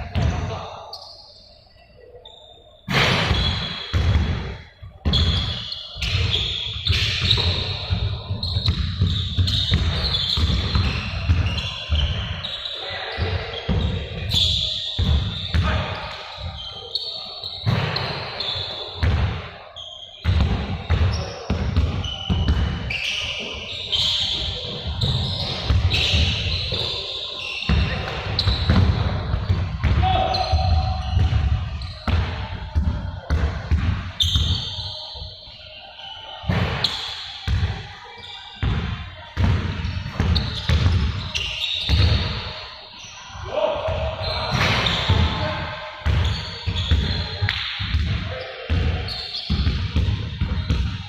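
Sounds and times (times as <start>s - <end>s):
basketballs bouncing on court: 0.0s - 0.6s, 2.9s - 12.4s, 13.1s - 16.6s, 17.6s - 18.4s, 19.0s - 19.5s, 20.2s - 34.8s, 36.5s - 37.8s, 38.6s - 42.5s, 43.8s - 51.0s
shoe squeaks: 0.2s - 4.0s, 5.1s - 32.2s, 34.1s - 38.7s, 39.8s - 51.0s.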